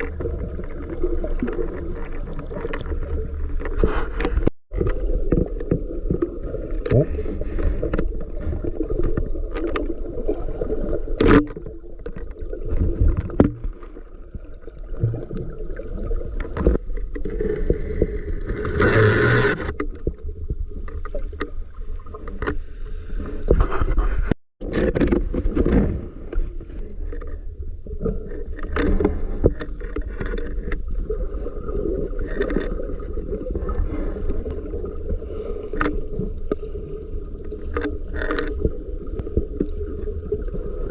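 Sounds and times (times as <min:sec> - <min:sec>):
water sloshing and gurgling: 0:00.0 - 0:40.9.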